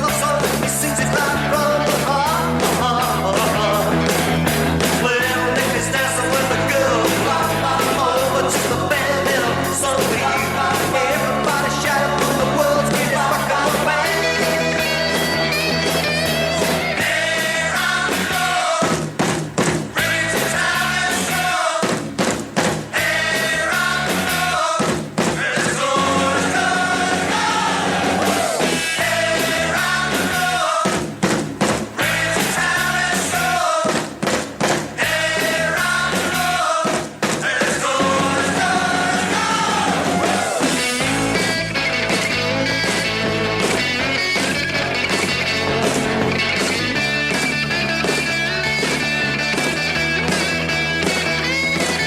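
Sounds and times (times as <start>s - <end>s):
rock song with vocals and band: 0.0s - 52.0s.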